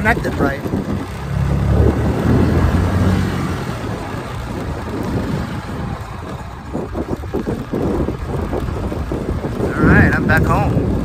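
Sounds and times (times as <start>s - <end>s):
motor scooter engine: 0.0s - 11.0s
wind rumble on microphone: 0.0s - 11.0s.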